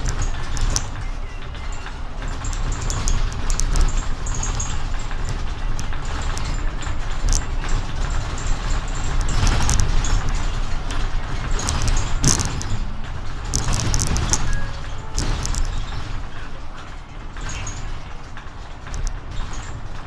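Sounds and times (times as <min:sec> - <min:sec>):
bus engine and road rumble: 0:00.0 - 0:20.0
cabin clicks and rattles: 0:00.0 - 0:20.0.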